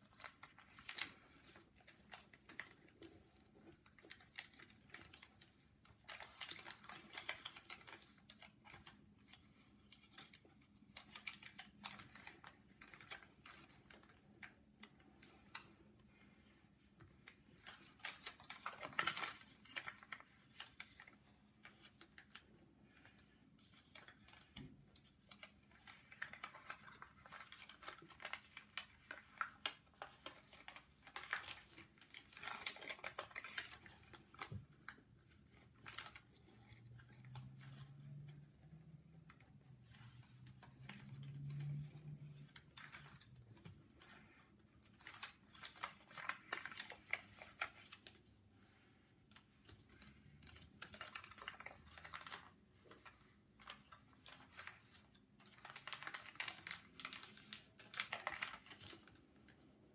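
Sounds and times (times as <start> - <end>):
paper crackling and rustling: 0.0 - 59.9.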